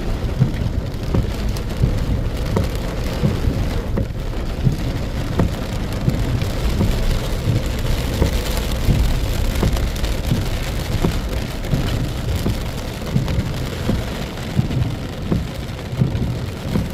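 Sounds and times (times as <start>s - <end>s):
heavy rain pouring: 0.0s - 16.9s.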